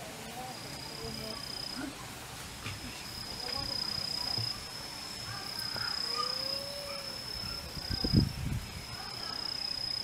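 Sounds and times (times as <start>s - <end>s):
faint insect chirps: 0.1s - 2.0s, 2.8s - 10.0s
insect trill: 0.2s - 1.9s, 2.9s - 10.0s.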